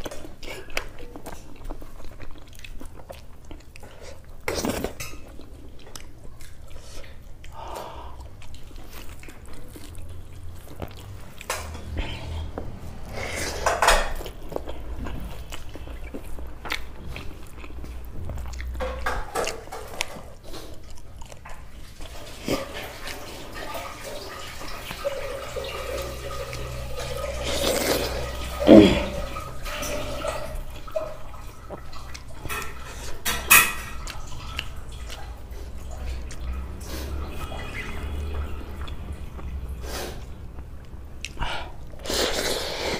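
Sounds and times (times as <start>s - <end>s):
wet chewing and lip-smacking: 0.0s - 23.9s, 30.8s - 42.9s.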